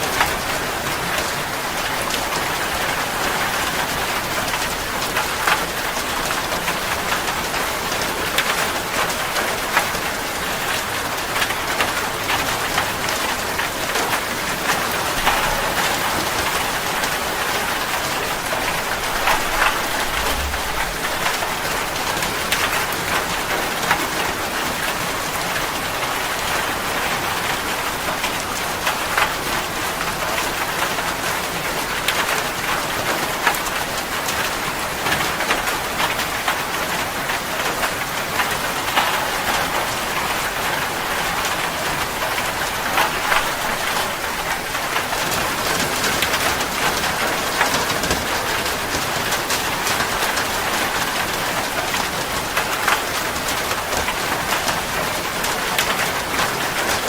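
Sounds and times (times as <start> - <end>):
steady rain with drop taps: 0.0 - 57.0.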